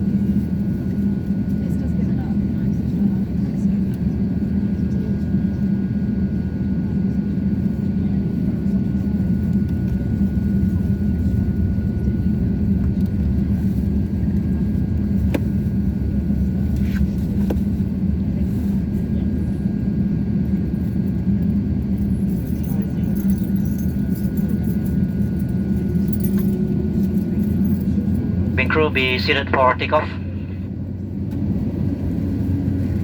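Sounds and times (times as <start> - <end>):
aircraft cabin rumble: 0.0 - 33.0.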